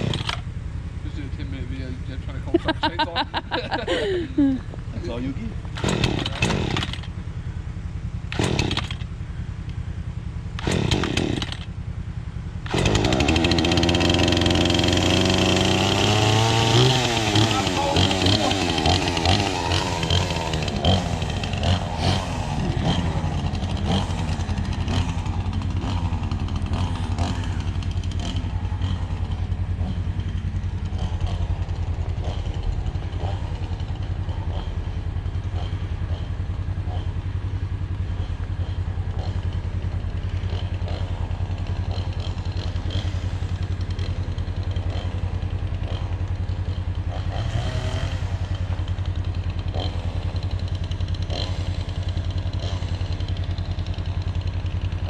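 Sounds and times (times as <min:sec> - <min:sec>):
chainsaw running: 0:00.0 - 0:00.4, 0:02.5 - 0:07.2, 0:08.1 - 0:09.8, 0:10.4 - 0:11.9, 0:12.6 - 0:55.0.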